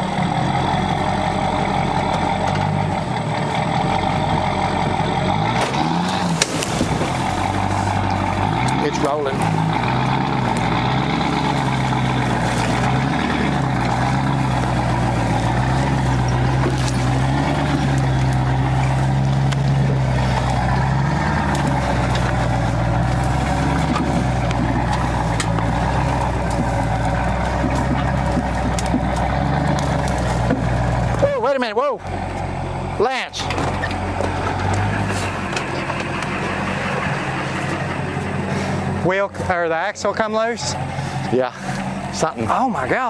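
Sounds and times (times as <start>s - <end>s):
truck engine under load: 0.0s - 43.0s.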